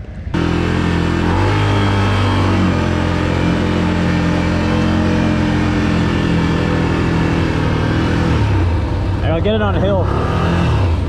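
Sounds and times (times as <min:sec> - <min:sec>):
atv engine running at full throttle: 0:00.0 - 0:11.0.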